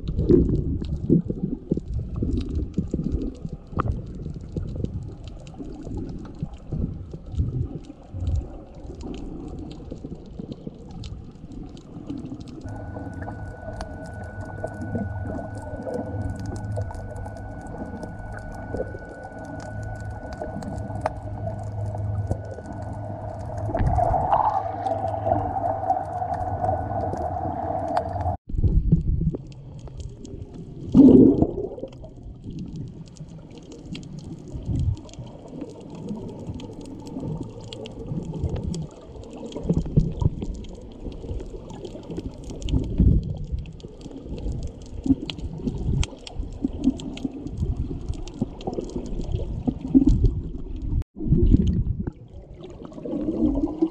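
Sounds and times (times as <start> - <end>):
underwater hum with held tones: 0.0 - 53.9
water gurgling: 0.0 - 53.9.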